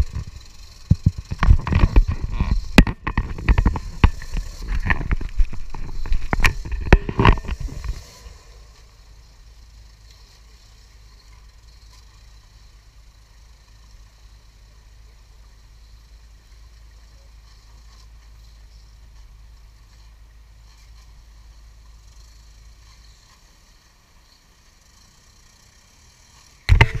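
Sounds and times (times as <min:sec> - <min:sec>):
distant buggy engine: 0:00.0 - 0:27.0
low steady rumble: 0:00.0 - 0:27.0.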